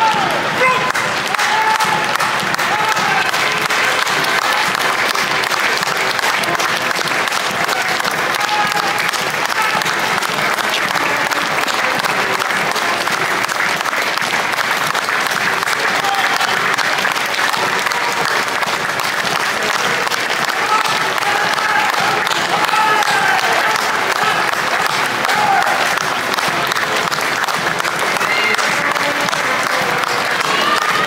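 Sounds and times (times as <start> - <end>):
crowd applauding: 0.0 - 31.0.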